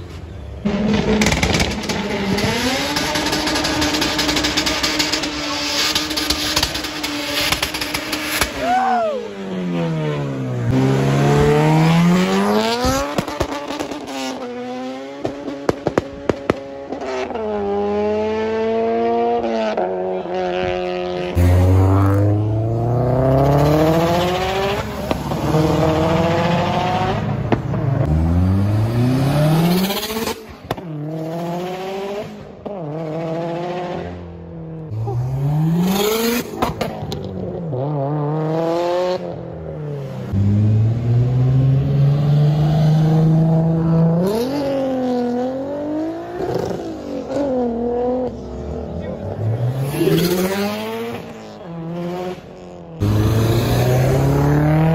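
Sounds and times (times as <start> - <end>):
car engine revving: 0.6 - 8.6, 9.6 - 54.9.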